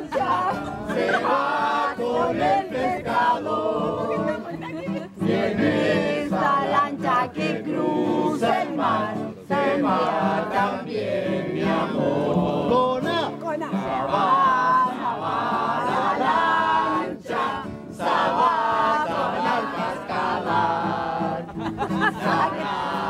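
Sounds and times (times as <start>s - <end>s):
acoustic guitar: 0.0s - 23.0s
group of people singing: 0.0s - 23.0s.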